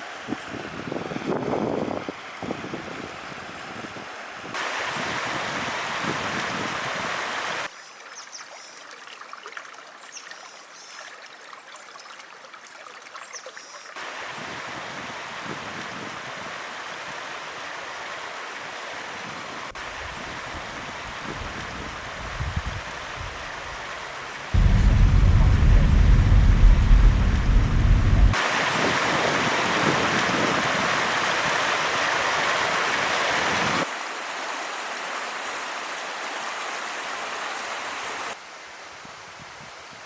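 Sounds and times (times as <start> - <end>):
mountain stream and waterfall: 0.0 - 24.9, 28.3 - 39.0.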